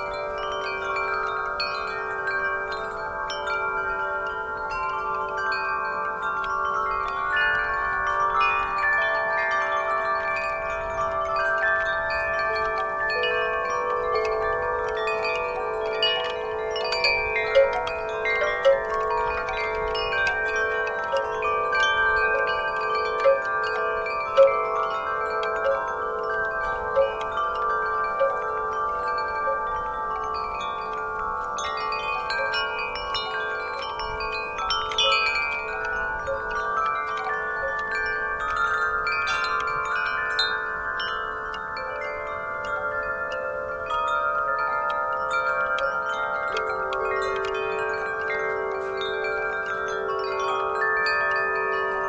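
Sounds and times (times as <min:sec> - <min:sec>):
wind chimes ringing: 0:00.0 - 0:52.0.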